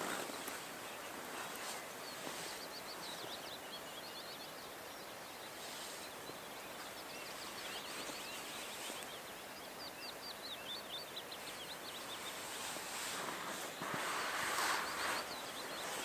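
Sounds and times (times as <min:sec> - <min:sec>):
outdoor background hiss: 0:00.0 - 0:16.0
small birds chirping: 0:00.0 - 0:16.0.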